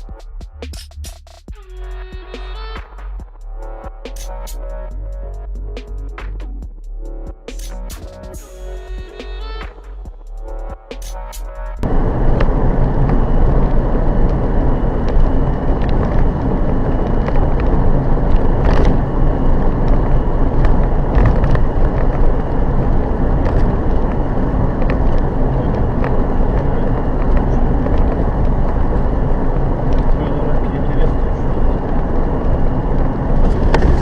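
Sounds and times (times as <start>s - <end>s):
vehicle road and engine noise: 0.0s - 34.0s.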